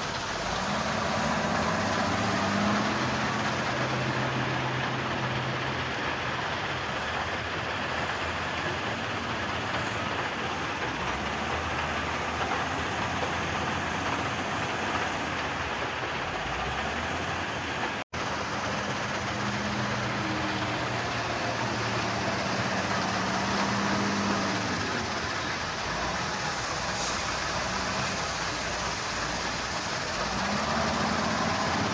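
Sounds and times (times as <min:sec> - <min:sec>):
heavy construction machinery: 0:00.0 - 0:31.9
low diesel engine hum: 0:00.0 - 0:31.9.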